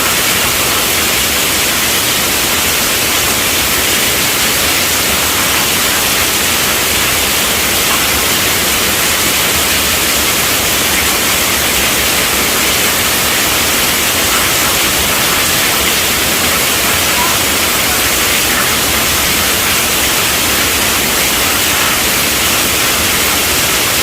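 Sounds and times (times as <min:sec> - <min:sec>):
steady rainfall hiss: 0:00.0 - 0:24.0.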